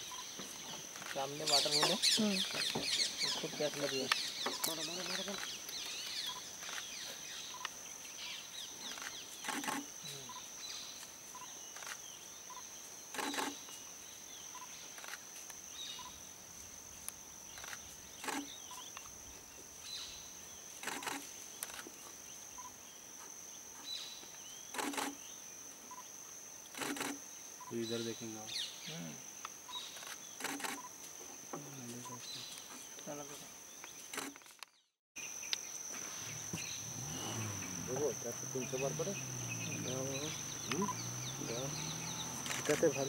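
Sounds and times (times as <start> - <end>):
high-pitched insect drone: 0.0 - 34.6, 35.2 - 43.0.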